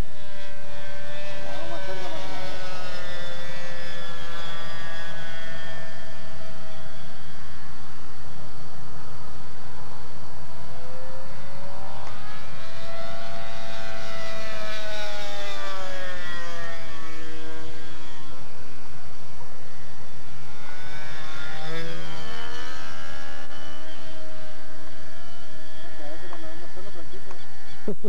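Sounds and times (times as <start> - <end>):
model plane engine high buzz: 0.0 - 28.0.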